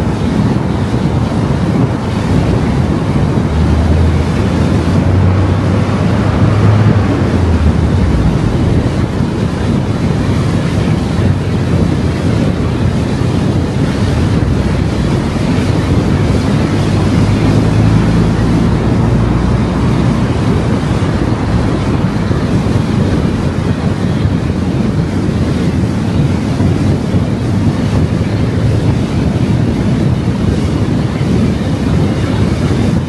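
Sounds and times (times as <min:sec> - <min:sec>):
low engine hum: 0:00.0 - 0:33.0
tyre and road noise: 0:00.0 - 0:33.0
wind: 0:00.0 - 0:33.0.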